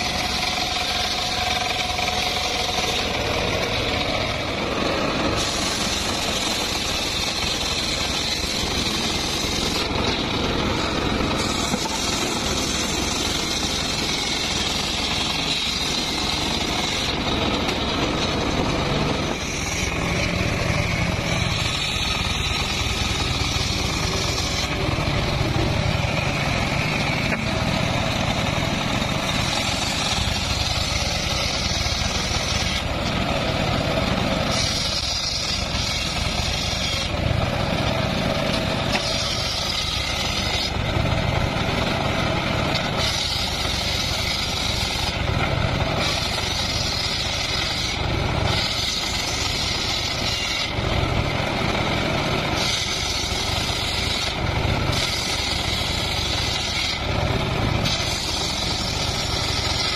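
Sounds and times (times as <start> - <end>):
circular saw cutting wood: 0.0 - 59.9
engine running steadily: 0.0 - 59.9.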